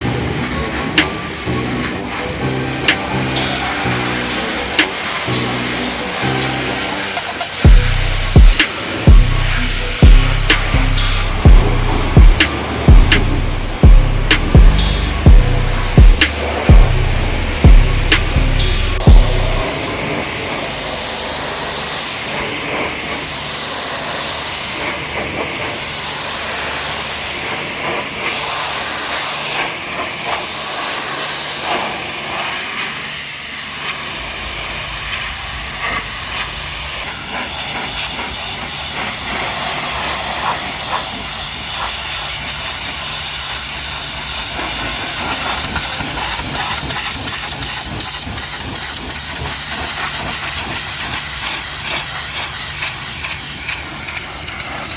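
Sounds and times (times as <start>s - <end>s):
pressure washer jet hissing: 0.0s - 54.9s.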